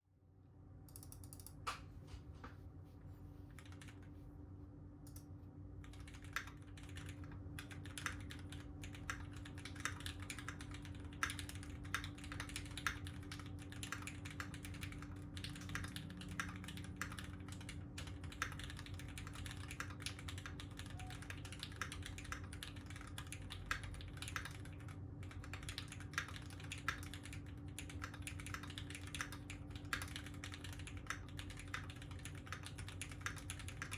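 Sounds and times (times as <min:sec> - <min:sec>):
mechanical keyboard typing: 0:03.6 - 0:04.0, 0:05.8 - 0:33.9.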